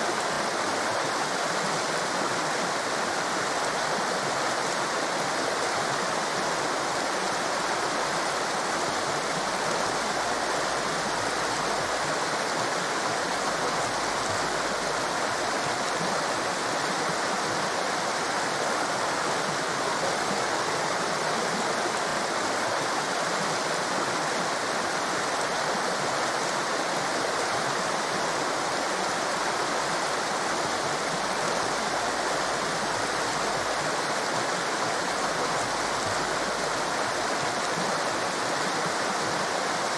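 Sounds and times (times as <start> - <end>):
rushing white water: 0.0 - 39.9.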